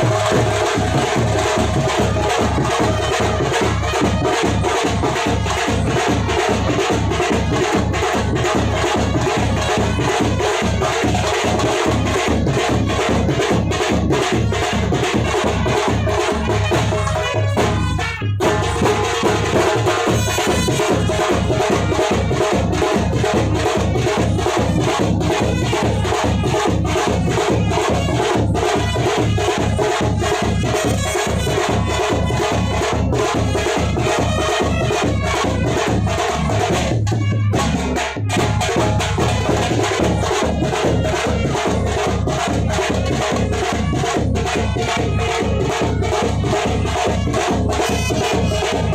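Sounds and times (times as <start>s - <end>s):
music with fast drum beat: 0.0s - 48.9s.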